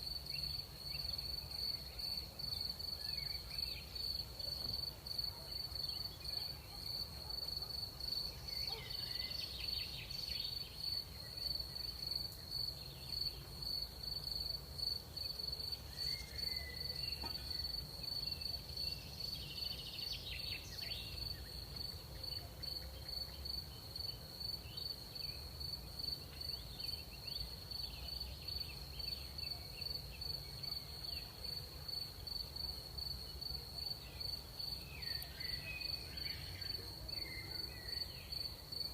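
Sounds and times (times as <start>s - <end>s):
crickets chirping: 0.0s - 38.9s
faint insect calls: 0.0s - 38.9s.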